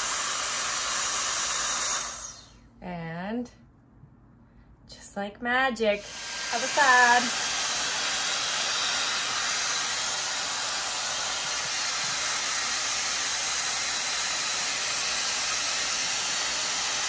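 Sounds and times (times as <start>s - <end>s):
hair dryer brush blowing air: 0.0s - 2.7s, 6.0s - 17.0s.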